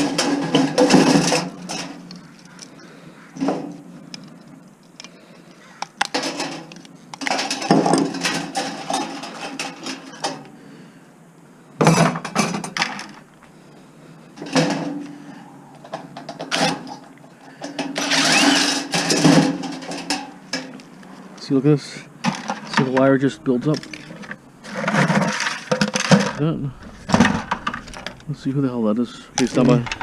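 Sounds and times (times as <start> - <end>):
scrap clattering and rustling: 0.0 - 2.8, 3.4 - 10.5, 11.8 - 13.6, 14.3 - 21.4, 22.2 - 23.0, 23.8 - 30.0.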